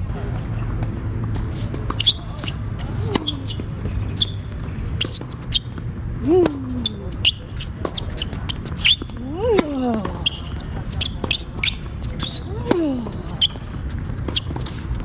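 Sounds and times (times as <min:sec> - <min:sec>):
tennis shoes squeaking: 0:00.6 - 0:15.0.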